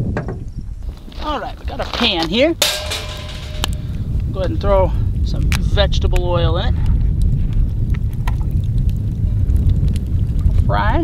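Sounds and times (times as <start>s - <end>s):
wind buffeting microphone: 0.0s - 11.0s
wood fire crackling: 0.8s - 11.0s.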